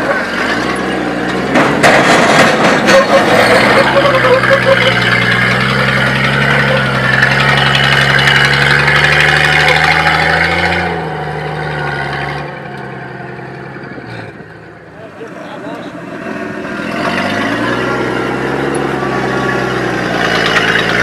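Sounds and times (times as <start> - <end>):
pickup engine under load: 0.0 - 21.0.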